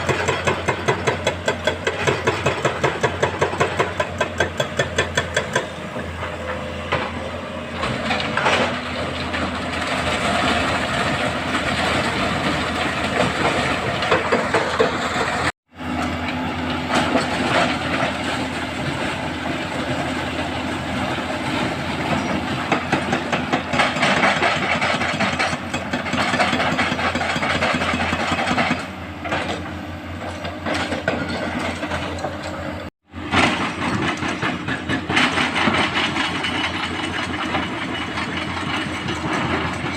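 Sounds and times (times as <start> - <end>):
diesel machinery engines under load: 0.0 - 39.9
machinery clatter and rattling: 0.0 - 39.9.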